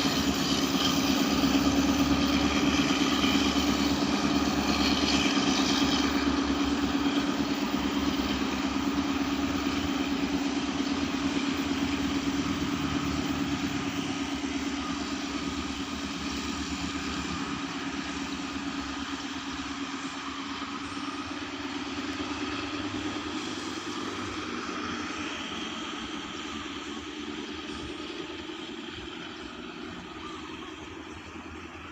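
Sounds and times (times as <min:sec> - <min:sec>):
diesel train engine humming: 0:00.0 - 0:31.9.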